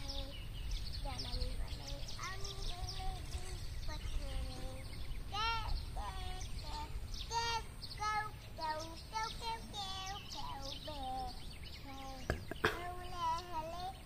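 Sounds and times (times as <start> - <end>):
child singing: 0.0 - 14.0.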